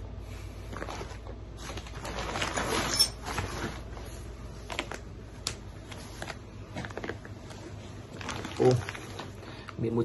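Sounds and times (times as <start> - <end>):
fabric bag rustling: 0.6 - 9.5.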